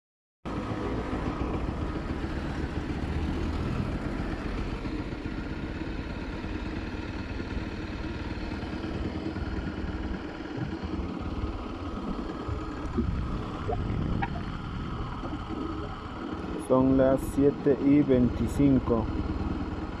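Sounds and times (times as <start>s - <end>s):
motorcycle engine running: 0.5s - 20.0s.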